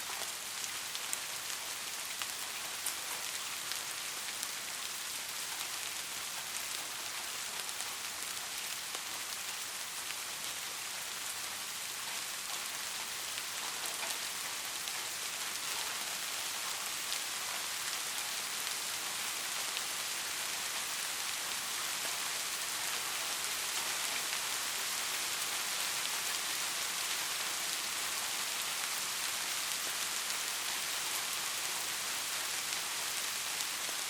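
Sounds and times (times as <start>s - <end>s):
raindrops ticking on a surface: 0.0s - 34.0s
steady rainfall: 0.0s - 34.0s.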